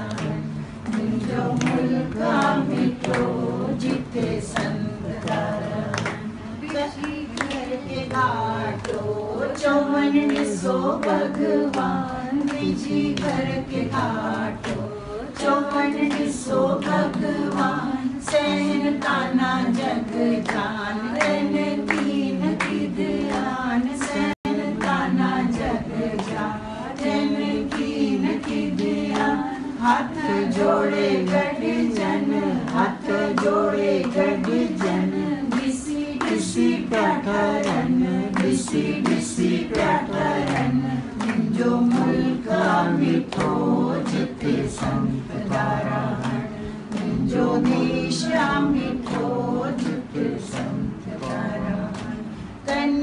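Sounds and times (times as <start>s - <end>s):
group singing unaccompanied: 0.0s - 53.0s
hand-clapping steady beat: 0.0s - 53.0s.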